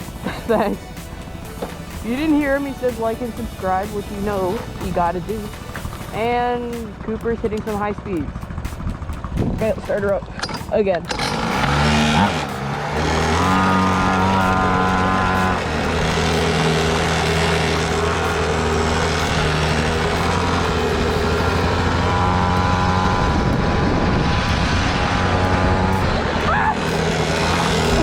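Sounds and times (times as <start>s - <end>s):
small engine revving: 0.0s - 28.0s.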